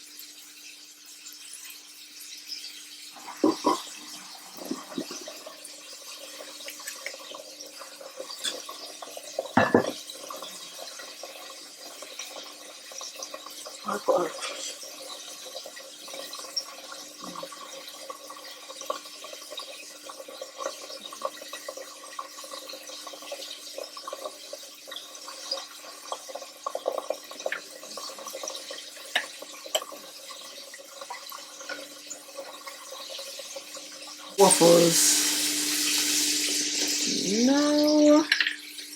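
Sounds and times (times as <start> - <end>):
chicken frying in oil: 0.0 - 38.9.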